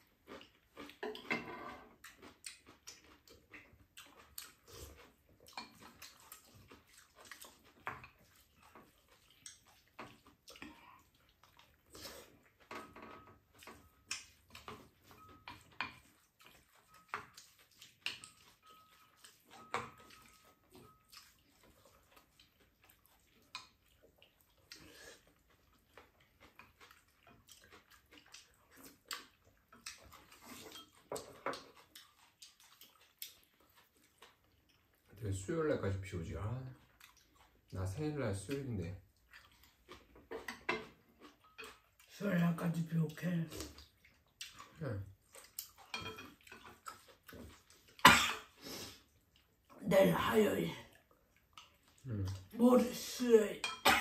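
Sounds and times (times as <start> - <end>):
chewing and slurping: 0.0 - 54.0.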